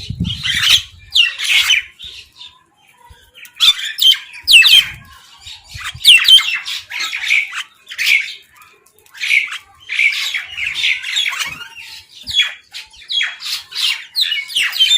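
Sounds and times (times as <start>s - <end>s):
birds squawking harshly: 0.1s - 2.4s, 3.4s - 8.6s, 9.2s - 14.9s.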